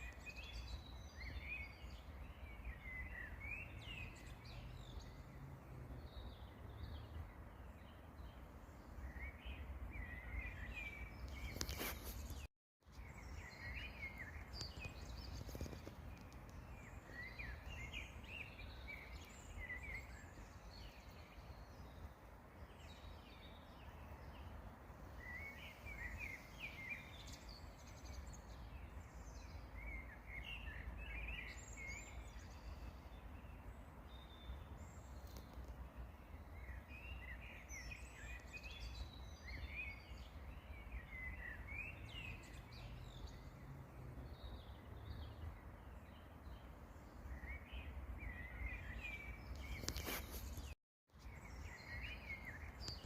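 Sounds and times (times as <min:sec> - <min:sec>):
songbirds twittering: 0:00.0 - 0:53.0.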